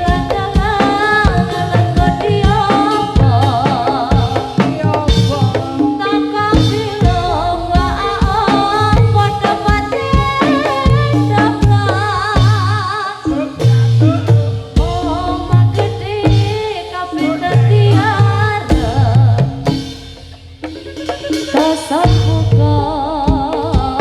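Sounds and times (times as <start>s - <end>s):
drum beating: 0.0s - 24.0s.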